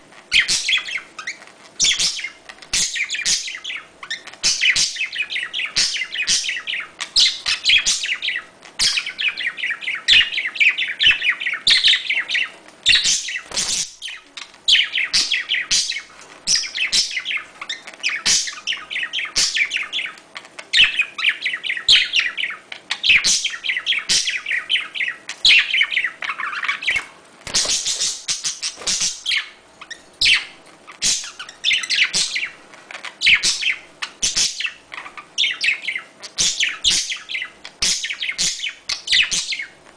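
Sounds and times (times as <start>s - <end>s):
budgerigars chattering: 0.3s - 39.8s.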